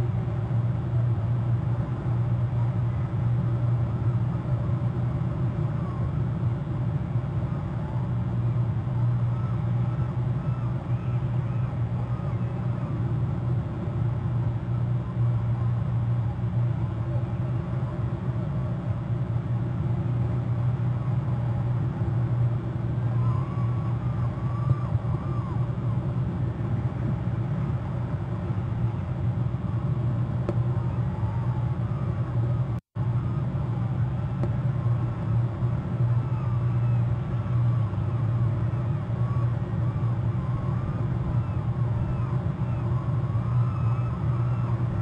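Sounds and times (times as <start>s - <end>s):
steady low rumble: 0.0s - 45.0s.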